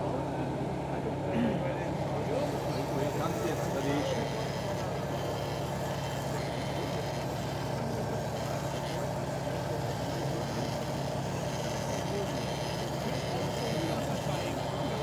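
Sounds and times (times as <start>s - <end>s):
model truck engine rumble: 0.0s - 15.0s.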